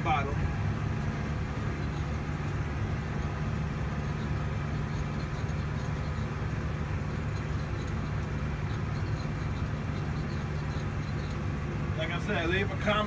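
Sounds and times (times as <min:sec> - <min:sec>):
light machinery ticking: 0:00.0 - 0:13.0
tractor engine running: 0:00.0 - 0:13.0.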